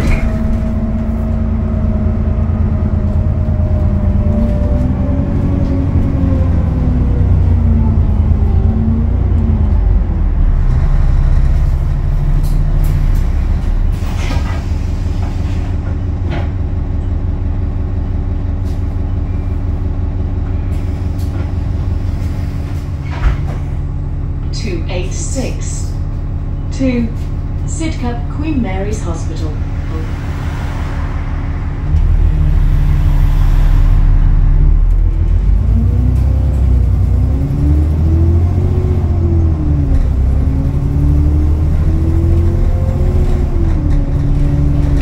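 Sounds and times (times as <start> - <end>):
bus diesel engine drone: 0.0 - 45.0.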